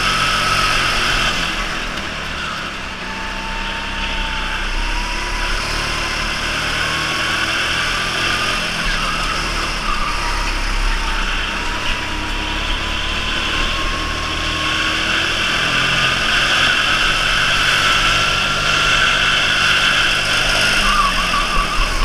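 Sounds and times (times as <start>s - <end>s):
go-kart motor running: 0.0s - 22.0s.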